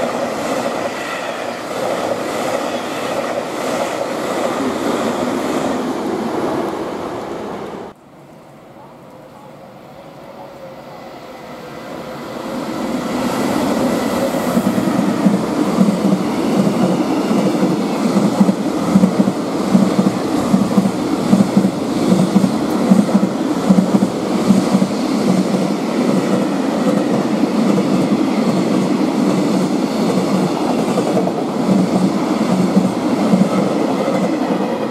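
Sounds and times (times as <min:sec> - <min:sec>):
freight train passing: 0:00.0 - 0:34.9.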